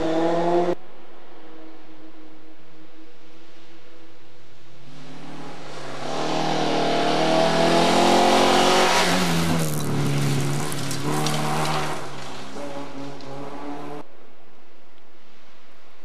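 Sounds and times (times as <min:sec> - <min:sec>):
rally car engine passing: 0:00.0 - 0:04.0, 0:04.6 - 0:14.1
gravel crackling under tyres: 0:00.8 - 0:16.0.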